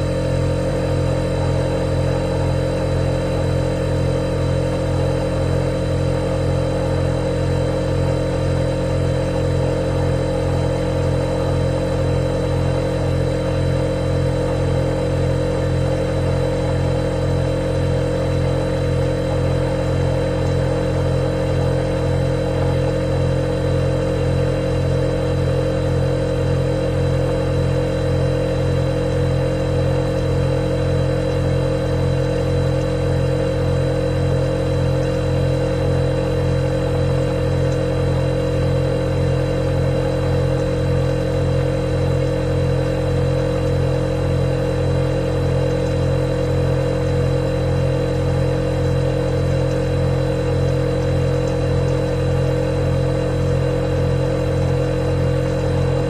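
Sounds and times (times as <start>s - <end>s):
refrigerator compressor humming: 0.0s - 56.0s.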